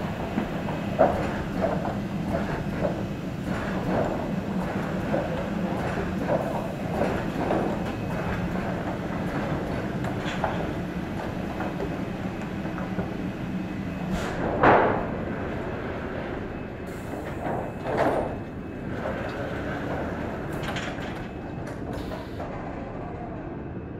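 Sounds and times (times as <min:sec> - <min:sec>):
conveyor machinery rumbling: 0:00.0 - 0:23.9.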